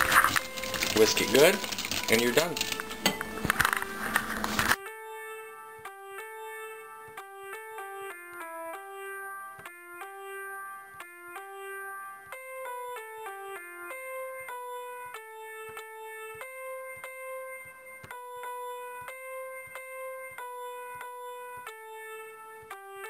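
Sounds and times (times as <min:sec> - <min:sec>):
electronic keyboard melody: 0:00.0 - 0:23.0.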